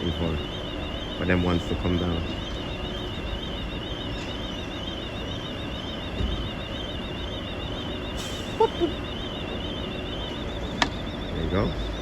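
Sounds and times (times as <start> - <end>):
car alarm siren warbling: 0.0 - 12.0.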